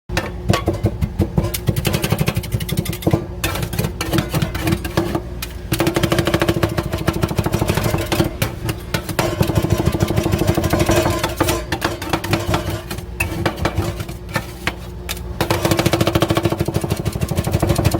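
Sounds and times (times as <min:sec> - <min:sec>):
metal spatulas striking steel plate: 0:00.1 - 0:17.9
steady low hum: 0:00.1 - 0:17.9.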